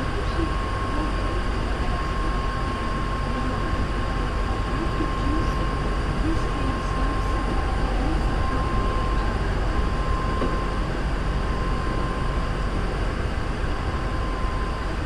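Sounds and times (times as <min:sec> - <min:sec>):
train wheels rumbling on rail: 0:00.0 - 0:13.8.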